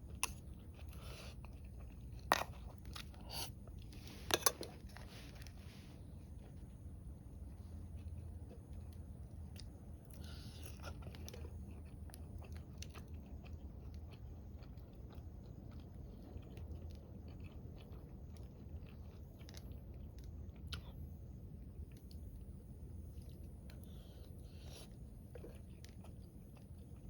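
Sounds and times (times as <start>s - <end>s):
chewing and crunching food: 0.0s - 27.0s.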